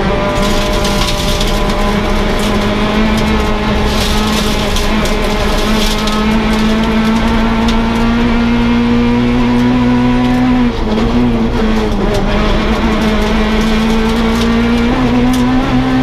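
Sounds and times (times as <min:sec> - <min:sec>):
rally car engine pulling hard: 0:00.0 - 0:16.0.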